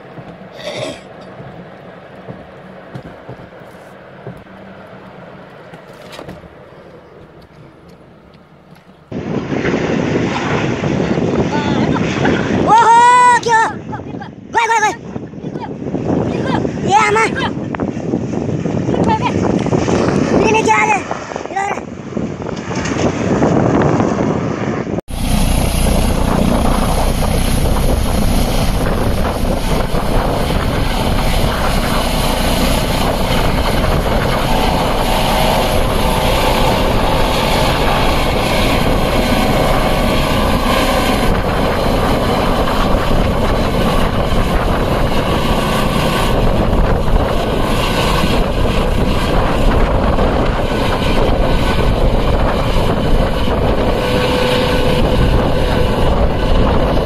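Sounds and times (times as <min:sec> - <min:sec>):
helicopter lifting off: 0:00.0 - 0:57.0.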